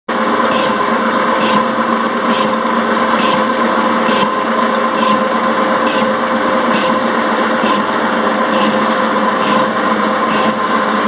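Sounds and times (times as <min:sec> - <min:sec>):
cutter scraping metal: 0:00.1 - 0:11.0
milling machine whine: 0:00.1 - 0:11.0.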